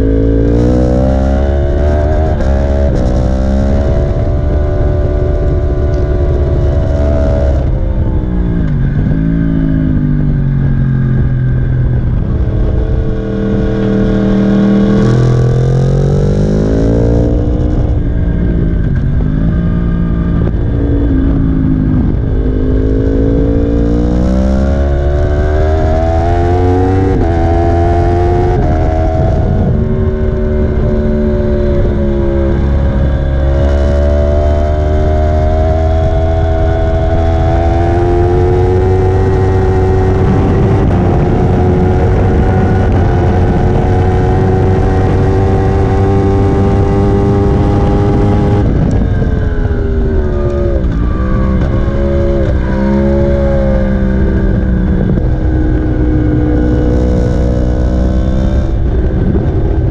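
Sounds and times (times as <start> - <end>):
low wind rush: 0.0 - 59.9
motorcycle engine at high speed: 0.0 - 59.9.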